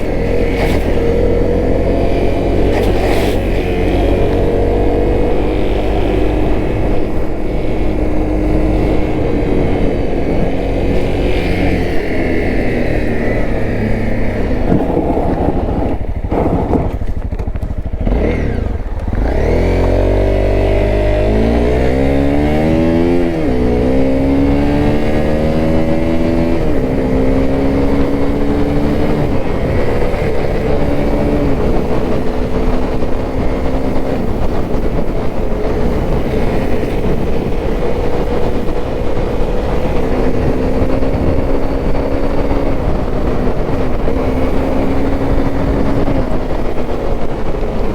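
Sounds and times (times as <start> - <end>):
motorcycle engine upshifting: 0.0 - 47.9.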